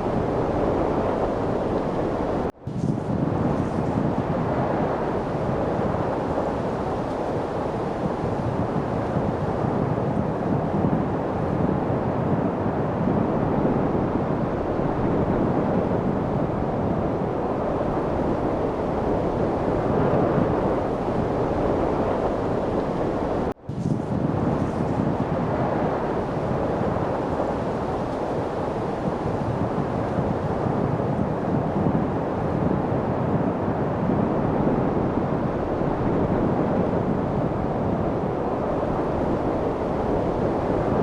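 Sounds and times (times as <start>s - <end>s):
steady wind: 0.0s - 41.0s.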